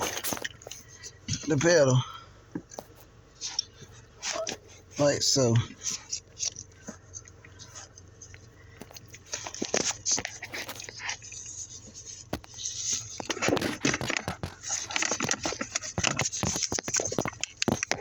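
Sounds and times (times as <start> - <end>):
handling rustling and clicks: 0.0 - 1.8, 2.5 - 18.0.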